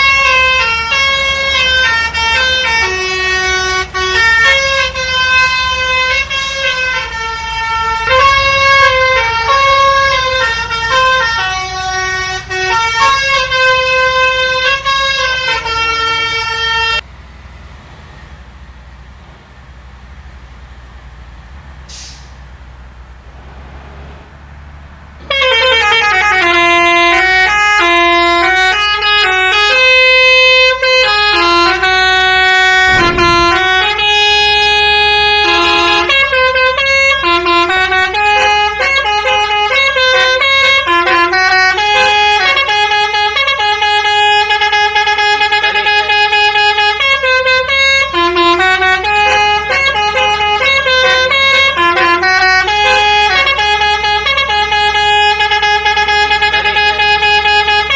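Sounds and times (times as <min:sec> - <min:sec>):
multi-tone air horn melody: 0:00.0 - 0:17.0, 0:25.2 - 0:57.9.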